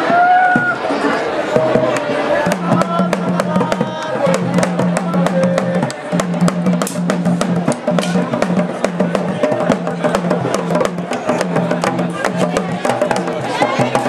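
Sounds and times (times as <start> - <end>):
fast drum and percussion strikes: 1.4 - 14.0.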